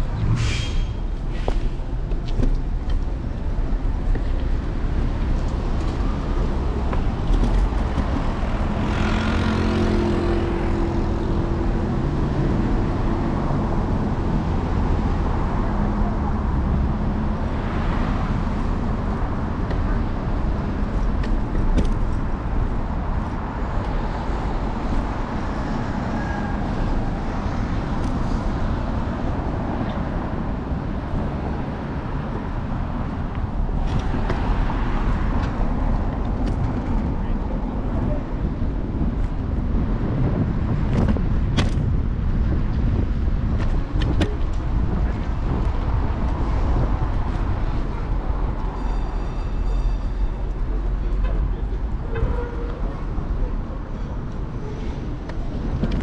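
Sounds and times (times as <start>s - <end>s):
cars passing: 0.0s - 56.0s
low traffic rumble: 0.0s - 56.0s.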